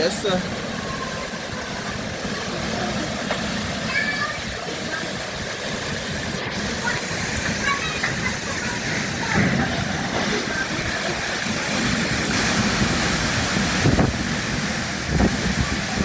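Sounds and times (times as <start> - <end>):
hurricane wind blowing: 0.0 - 16.0
wind buffeting microphone: 0.4 - 16.0.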